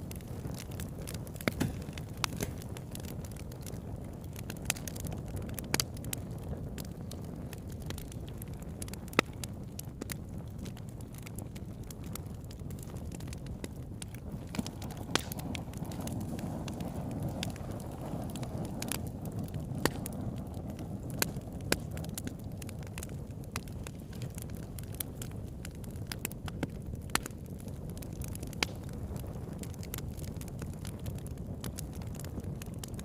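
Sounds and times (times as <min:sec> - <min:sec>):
crackles and pops of burning wood: 0:00.0 - 0:33.0
rush of flame: 0:00.0 - 0:33.0.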